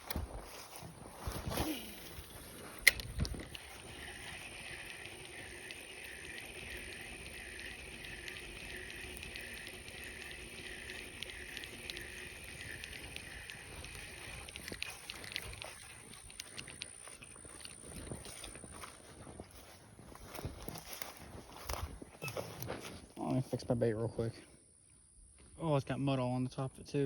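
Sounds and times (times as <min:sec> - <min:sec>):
fishing reel whirring: 0:00.0 - 0:22.7.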